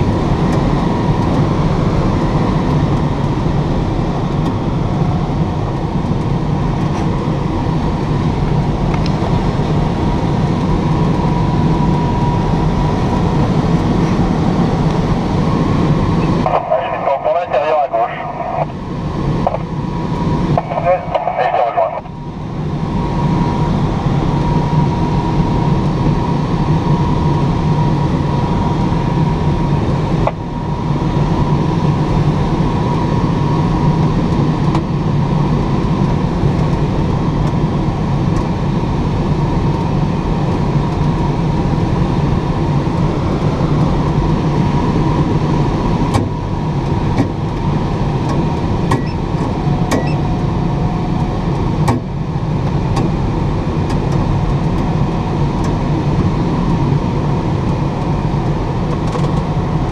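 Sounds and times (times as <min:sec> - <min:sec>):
airflow rushing around cockpit: 0:00.0 - 0:59.9.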